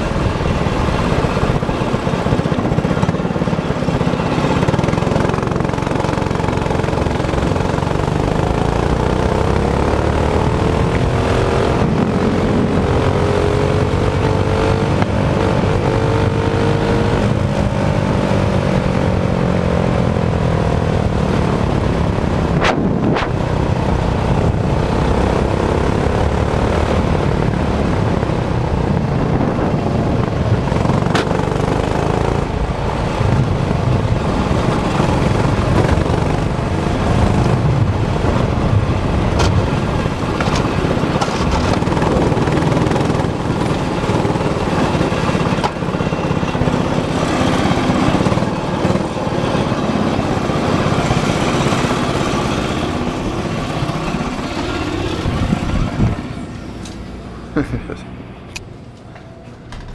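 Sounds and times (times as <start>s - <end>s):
go-kart engine revving: 0.0s - 57.9s
wind and road noise: 0.0s - 59.9s.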